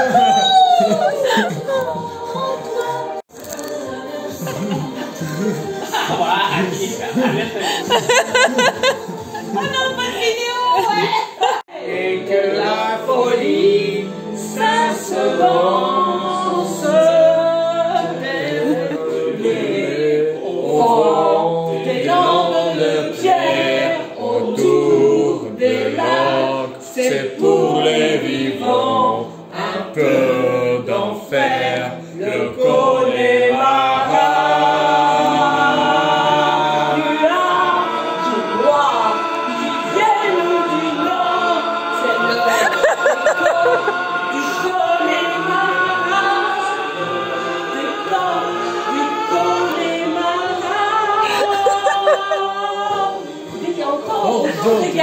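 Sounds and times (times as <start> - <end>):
several voices singing: 0.0 - 55.0.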